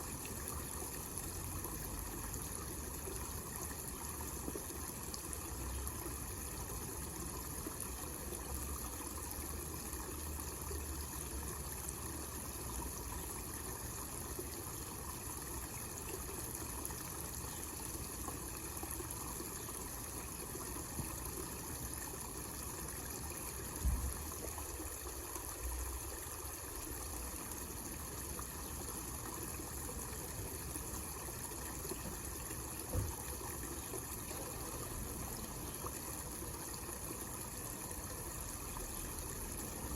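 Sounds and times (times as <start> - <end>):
water splashing into pond: 0.0 - 39.9.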